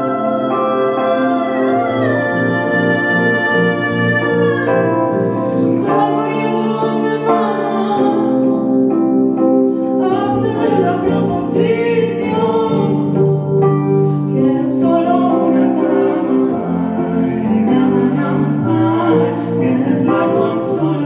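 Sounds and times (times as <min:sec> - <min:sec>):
folk song sung live: 0:00.0 - 0:08.8, 0:09.8 - 0:13.4, 0:14.1 - 0:21.0
instrumental accompaniment: 0:00.0 - 0:21.0.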